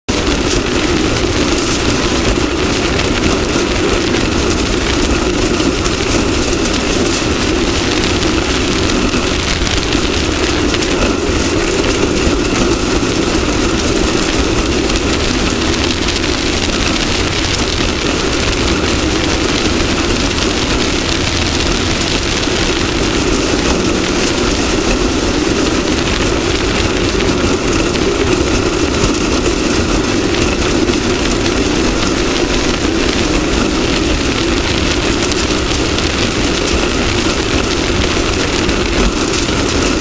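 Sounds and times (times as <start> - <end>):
race vehicle engine running: 0.0 - 40.0
rush of noise: 0.0 - 40.0.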